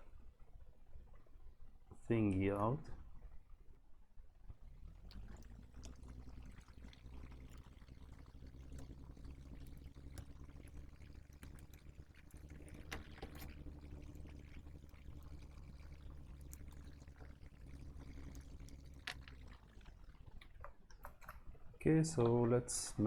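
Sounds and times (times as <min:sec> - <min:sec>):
faint low electric hum: 0:00.0 - 0:23.0.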